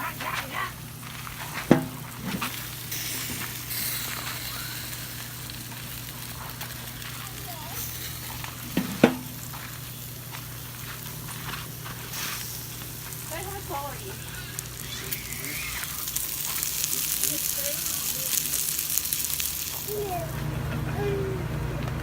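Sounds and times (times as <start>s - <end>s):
food sizzling on a grill: 0.0s - 21.2s.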